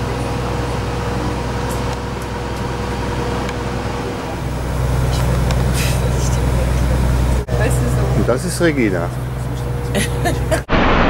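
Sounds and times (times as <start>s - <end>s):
ship engines droning: 0.0s - 10.7s.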